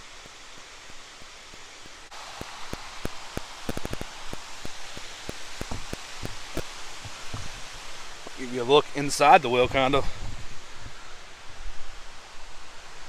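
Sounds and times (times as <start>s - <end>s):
raindrops tapping: 0.0s - 11.0s
rain hissing: 0.0s - 13.0s.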